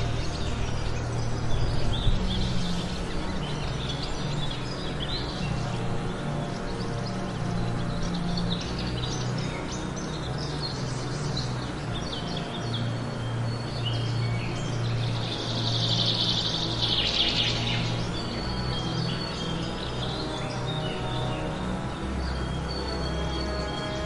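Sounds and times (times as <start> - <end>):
birds chirping: 0.0 - 24.0
low background music drone: 0.0 - 24.0.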